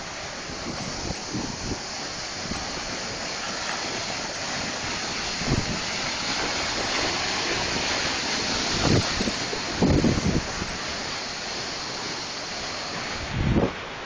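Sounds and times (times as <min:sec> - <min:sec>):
steady rushing noise: 0:00.0 - 0:14.0
wind buffeting microphone: 0:00.0 - 0:14.0.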